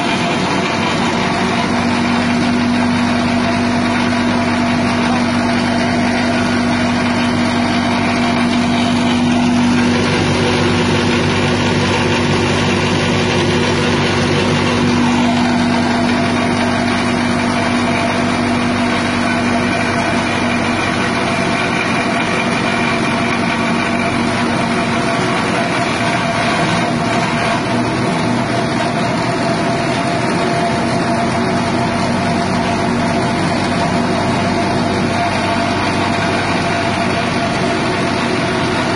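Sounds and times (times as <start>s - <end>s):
petrol engine running: 0.0s - 38.9s.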